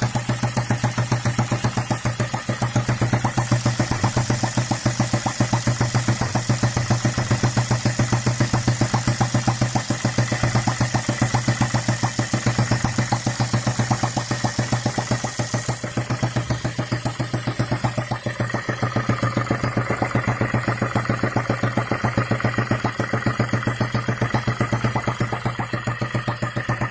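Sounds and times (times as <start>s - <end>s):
small petrol engine running: 0.0s - 26.9s.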